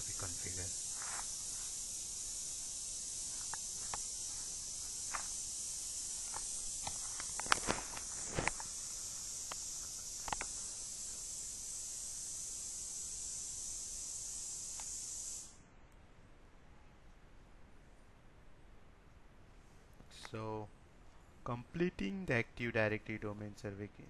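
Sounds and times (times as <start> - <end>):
high recording hiss: 0.0 - 24.0.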